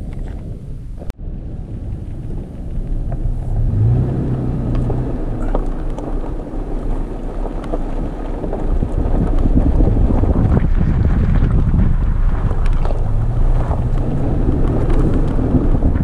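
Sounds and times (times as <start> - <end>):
engine and tyre rumble: 0.0 - 16.0
gravel crunching: 0.0 - 16.0
wind buffeting microphone: 0.0 - 16.0.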